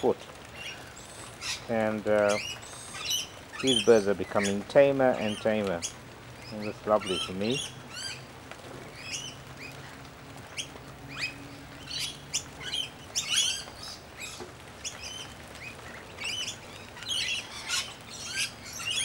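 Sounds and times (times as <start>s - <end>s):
birds chirping and squawking: 0.0s - 19.0s.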